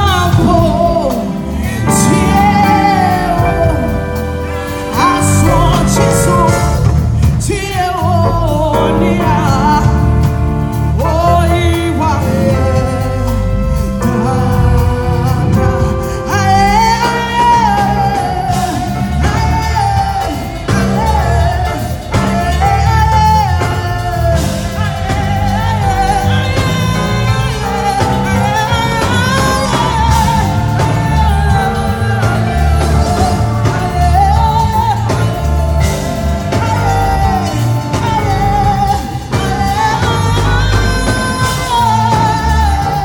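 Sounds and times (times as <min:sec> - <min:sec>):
instrumental accompaniment: 0:00.0 - 0:43.0
steady bass line: 0:00.0 - 0:43.0
woman singing into a microphone: 0:00.0 - 0:43.0.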